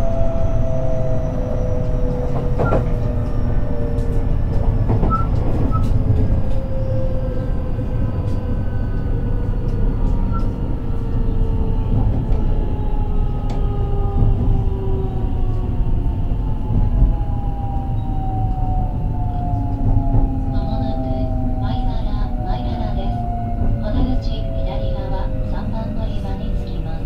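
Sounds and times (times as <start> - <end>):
train interior rumble: 0.0 - 27.0.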